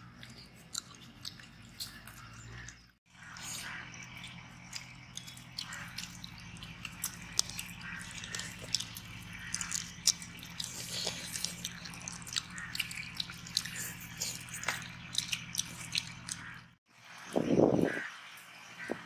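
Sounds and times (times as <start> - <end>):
chewing and tearing food: 0.0 - 16.8
steady low hum: 0.0 - 18.1.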